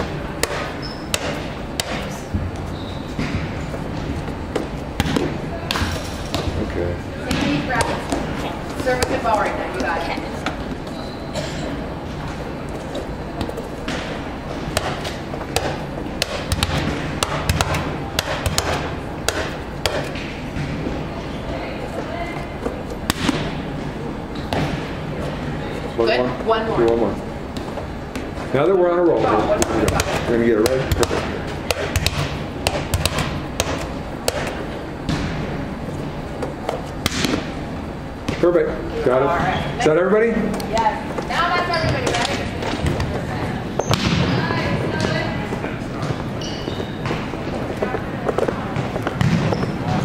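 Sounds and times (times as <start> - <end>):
hubbub of a large hall: 0.0 - 50.0
volleyballs being hit and bounced: 0.0 - 50.0.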